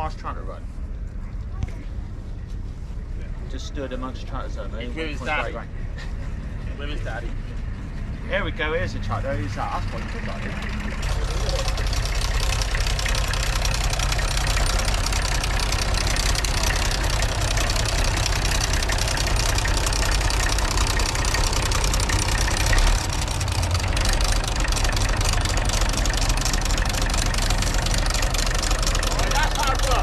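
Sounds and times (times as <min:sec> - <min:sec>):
tractor engine running: 0:05.8 - 0:30.0.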